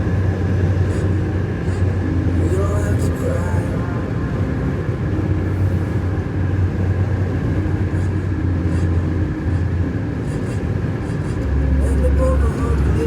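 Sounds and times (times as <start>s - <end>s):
car cabin road rumble: 0.0s - 13.0s.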